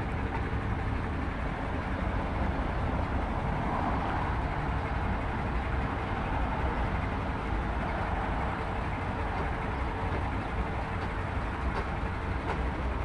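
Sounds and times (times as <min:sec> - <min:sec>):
road noise: 0:00.0 - 0:13.0
vehicle engines rumbling: 0:00.0 - 0:13.0.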